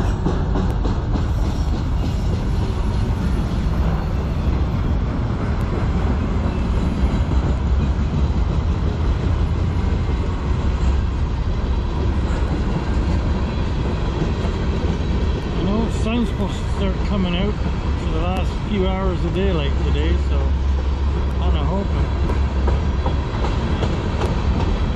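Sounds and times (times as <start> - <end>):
train wheels rumbling on track: 0.0 - 24.9.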